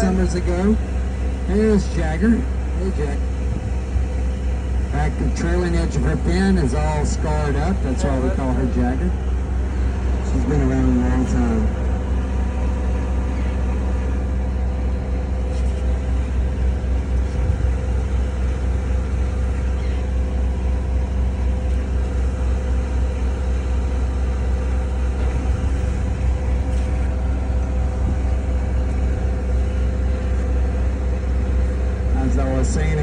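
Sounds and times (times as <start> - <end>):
boat engine humming: 0.0 - 33.0.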